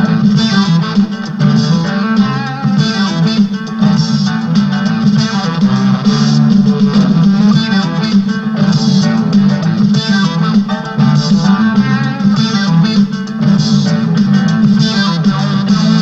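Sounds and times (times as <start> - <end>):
guitar-led background music: 0.0 - 16.0.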